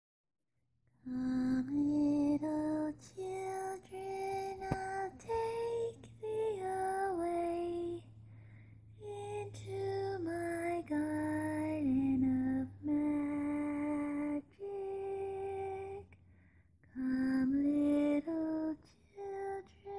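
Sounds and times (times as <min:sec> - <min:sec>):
low steady hum: 0:00.9 - 0:19.9
woman singing lullaby melody: 0:01.0 - 0:08.2, 0:09.0 - 0:16.2, 0:16.9 - 0:19.9.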